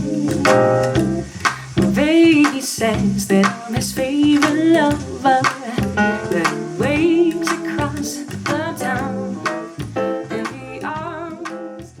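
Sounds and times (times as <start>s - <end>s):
slow song sung over a band: 1.5s - 12.0s.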